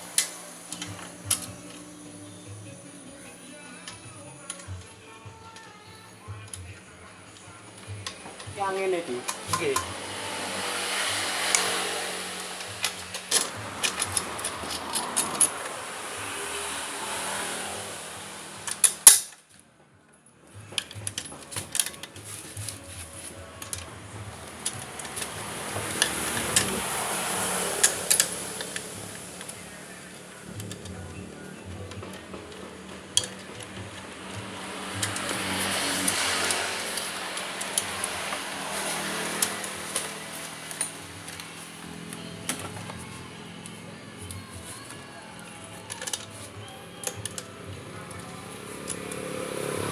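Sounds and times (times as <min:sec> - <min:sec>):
vehicle engine noise: 0:00.0 - 0:19.6, 0:20.4 - 0:49.9
steady background noise: 0:00.0 - 0:49.9.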